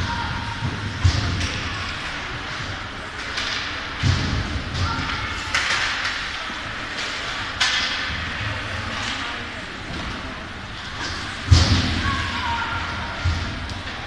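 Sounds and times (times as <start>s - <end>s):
hockey sticks and puck clacking: 0.0s - 14.0s.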